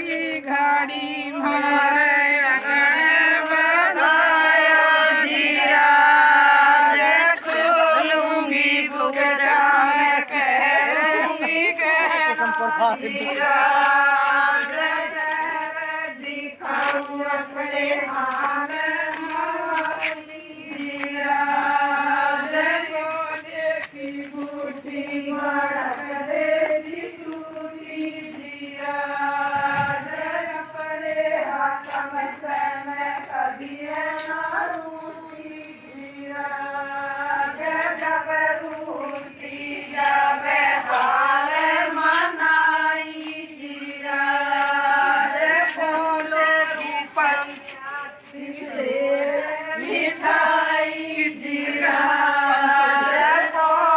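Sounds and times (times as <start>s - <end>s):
women singing in unison: 0.0s - 53.9s.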